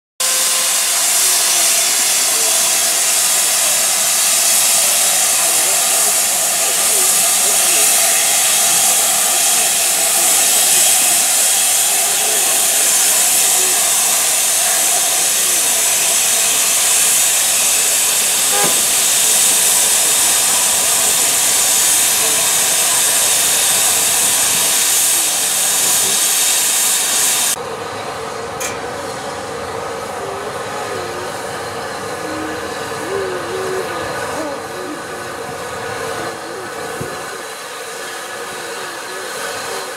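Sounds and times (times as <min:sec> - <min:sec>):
steam locomotive hissing: 0:00.2 - 0:39.9.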